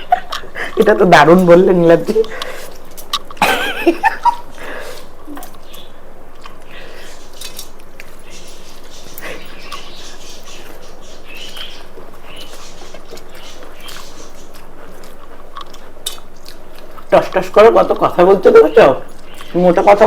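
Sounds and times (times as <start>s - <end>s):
person chewing: 2.1s - 19.6s.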